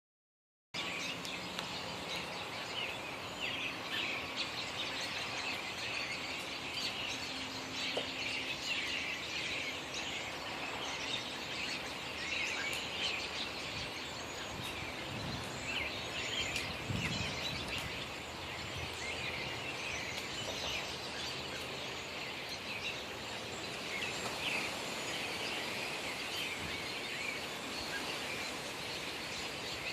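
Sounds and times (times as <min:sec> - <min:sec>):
small birds chirping chorus: 0:00.8 - 0:29.9
steady background hiss: 0:00.8 - 0:29.9.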